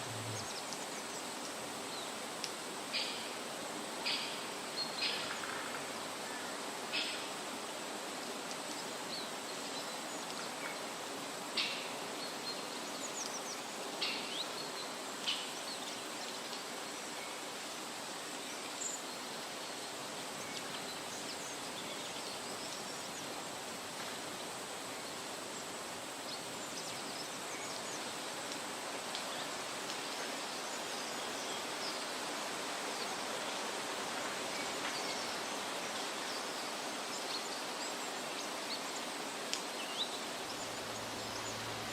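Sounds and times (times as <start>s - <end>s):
steady rushing hiss: 0.0s - 41.9s.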